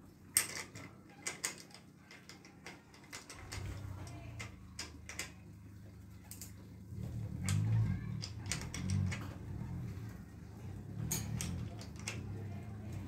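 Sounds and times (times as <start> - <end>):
low rumble of handling: 0.0 - 13.0.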